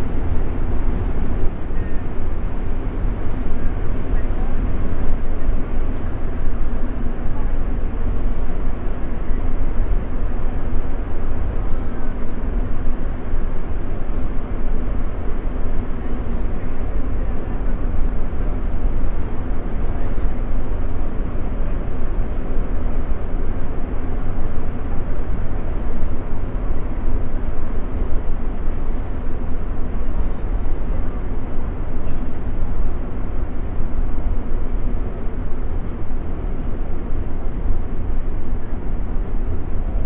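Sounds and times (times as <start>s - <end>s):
faint constant hum: 0.0s - 40.0s.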